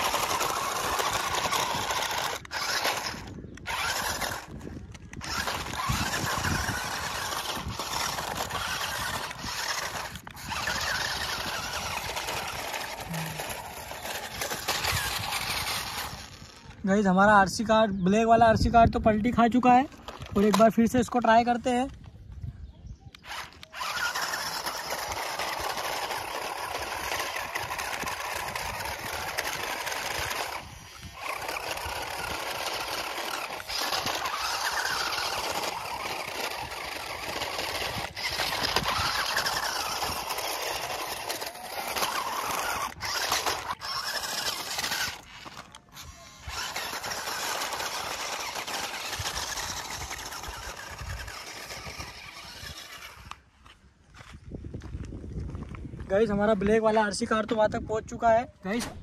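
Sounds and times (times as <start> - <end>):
electric motors whining: 0.0 - 16.8, 23.1 - 53.8.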